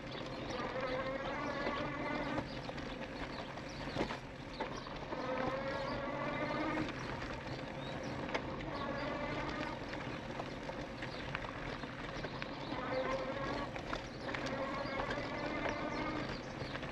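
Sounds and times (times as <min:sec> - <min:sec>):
bike knocking and rattling: 0:00.0 - 0:16.9
electric bike motor whining: 0:00.0 - 0:16.9
tyres rumbling on dirt trail: 0:00.0 - 0:16.9.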